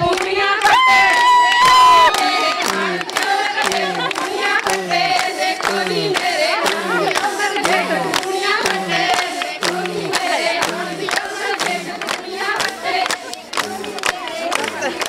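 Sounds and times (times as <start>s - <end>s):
crowd clapping rhythmically: 0.0s - 15.0s
women singing in chorus: 0.0s - 15.0s.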